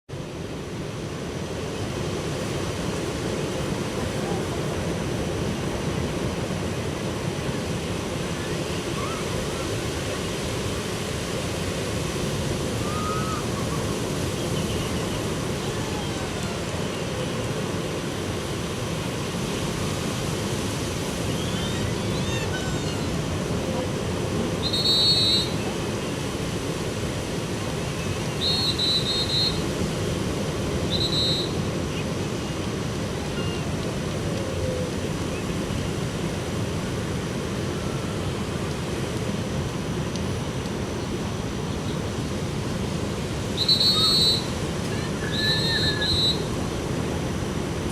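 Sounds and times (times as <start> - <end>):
ocean surf breaking: 0.1 - 47.9.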